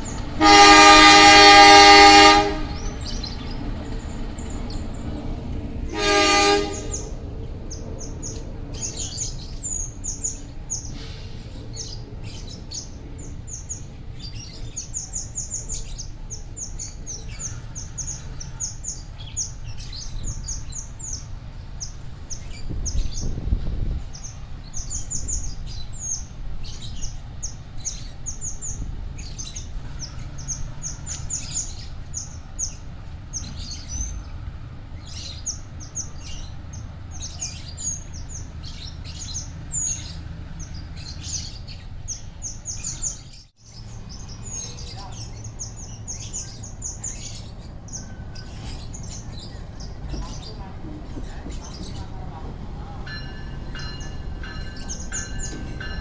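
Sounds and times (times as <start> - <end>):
birds chirping: 0.0 - 56.0
diesel locomotive rumbling: 0.0 - 56.0.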